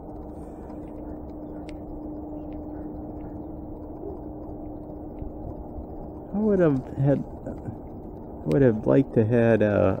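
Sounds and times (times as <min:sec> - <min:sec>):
faint continuous hum: 0:00.0 - 0:10.0
faint ticks: 0:00.0 - 0:10.0.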